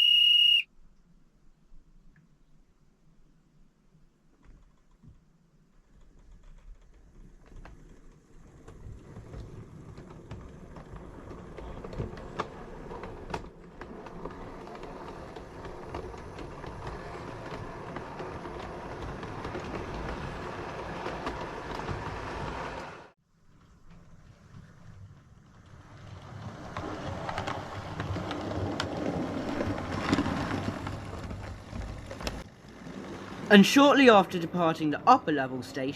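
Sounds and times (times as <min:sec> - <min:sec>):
wheels clicking over rail joints: 0:04.4 - 0:35.0
model train wheels rumbling: 0:05.8 - 0:35.8.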